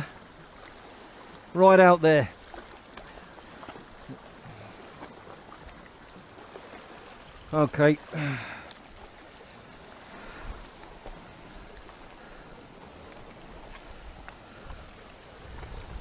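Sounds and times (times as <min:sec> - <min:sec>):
sea lapping against rocks: 0:00.0 - 0:16.0.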